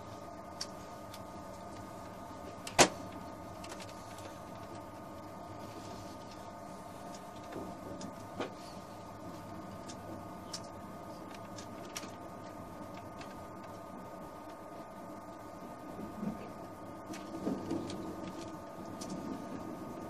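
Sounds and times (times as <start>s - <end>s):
train electric hum: 0.0s - 20.0s.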